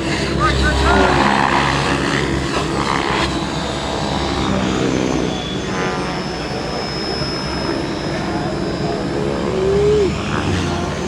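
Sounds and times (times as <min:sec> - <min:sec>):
aircraft motors humming: 0:00.0 - 0:11.0.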